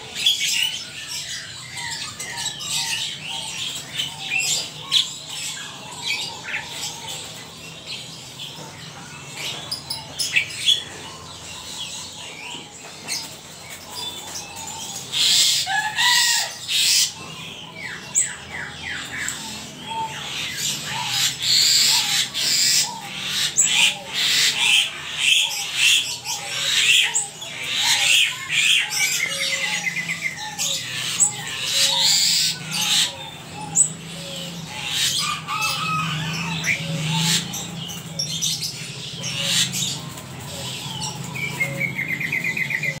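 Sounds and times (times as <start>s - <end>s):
bird harsh chattering calls: 0.0s - 43.0s.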